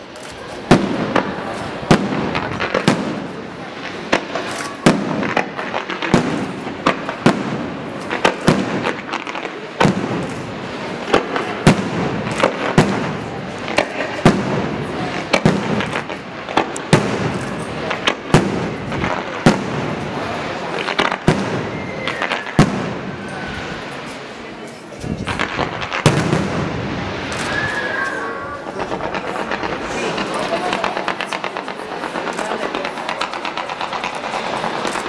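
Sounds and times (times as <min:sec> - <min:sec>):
firework shells bursting: 0:00.0 - 0:35.0
rush of burning fireworks: 0:00.0 - 0:35.0.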